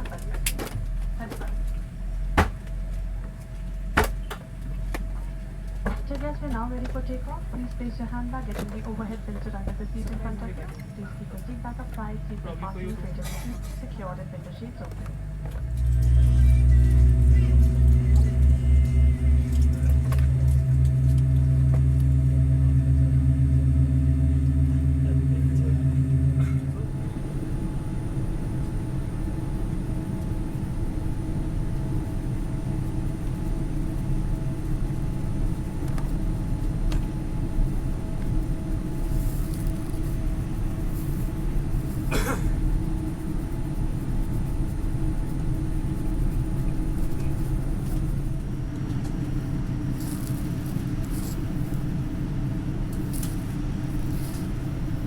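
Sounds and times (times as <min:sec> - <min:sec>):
airliner cabin hum: 0:00.0 - 0:55.0.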